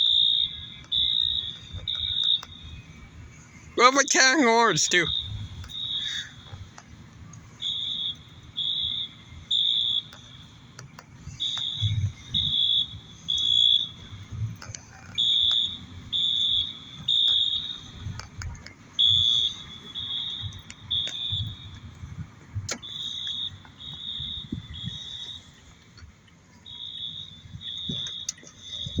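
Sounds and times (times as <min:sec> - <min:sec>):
fire alarm horn beeps: 0:00.0 - 0:06.6, 0:07.5 - 0:14.4, 0:15.1 - 0:18.2, 0:19.0 - 0:25.7, 0:26.6 - 0:29.0.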